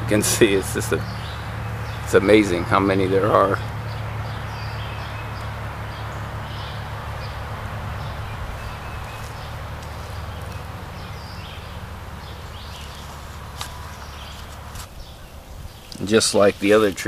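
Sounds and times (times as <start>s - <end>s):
steady low rumble: 0.0s - 16.0s
bird chirps: 0.0s - 16.1s.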